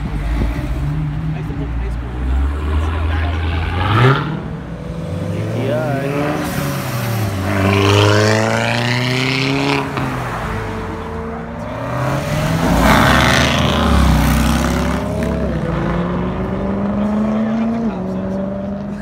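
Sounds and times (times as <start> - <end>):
car accelerating away: 2.1 - 19.0
car with deep exhaust revving: 3.6 - 19.0.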